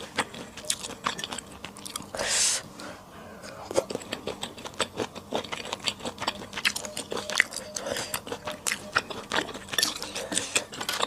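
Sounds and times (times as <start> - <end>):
wet chewing and biting: 0.0 - 2.2, 3.6 - 11.0.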